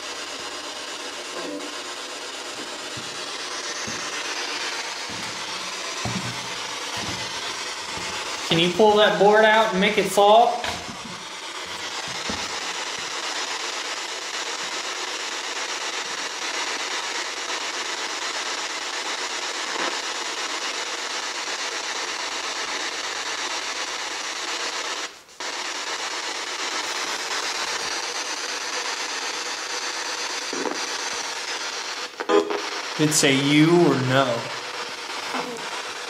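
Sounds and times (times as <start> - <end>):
static hiss: 0.0 - 36.0.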